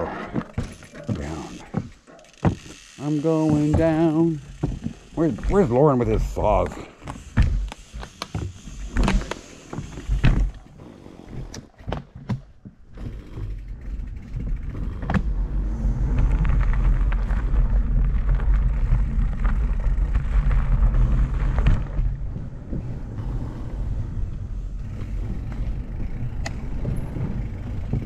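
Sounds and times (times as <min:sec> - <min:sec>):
bike tyres rumbling on trail: 0:00.0 - 0:28.0.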